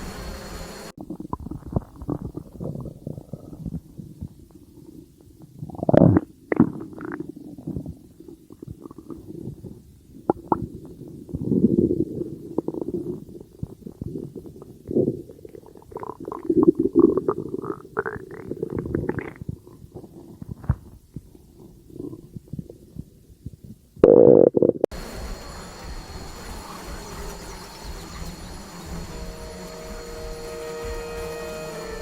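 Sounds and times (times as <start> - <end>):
stomach growling: 1.0 - 31.3.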